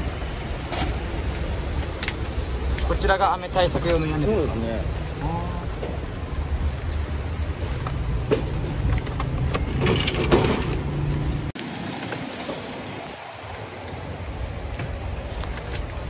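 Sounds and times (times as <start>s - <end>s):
traffic on wet street: 0.0s - 16.0s.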